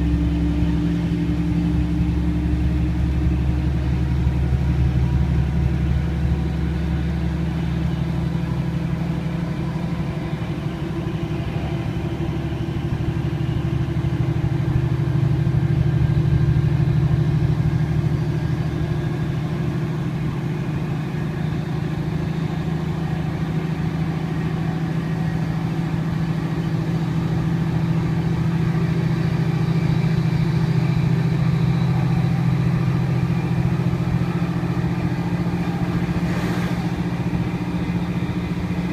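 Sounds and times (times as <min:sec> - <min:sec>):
train diesel engine droning: 0:00.0 - 0:38.9.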